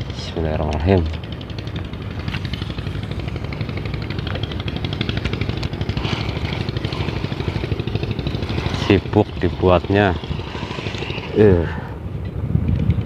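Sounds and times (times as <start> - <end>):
small engine puttering: 0.0 - 13.0.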